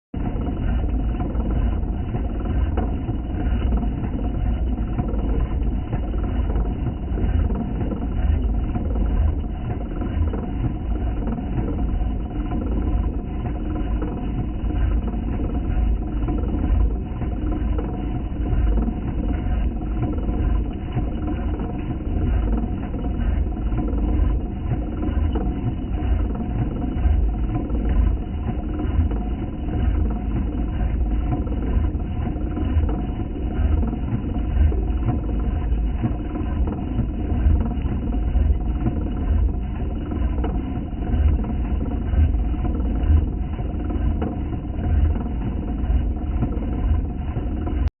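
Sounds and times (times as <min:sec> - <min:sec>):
deep slowed machine rumble: 0:00.2 - 0:47.9
faint steady hum tones: 0:00.2 - 0:47.9.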